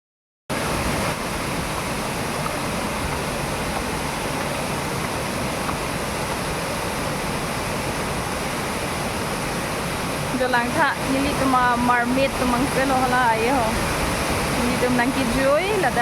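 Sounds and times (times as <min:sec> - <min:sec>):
waterfall rushing: 0:00.5 - 0:16.0.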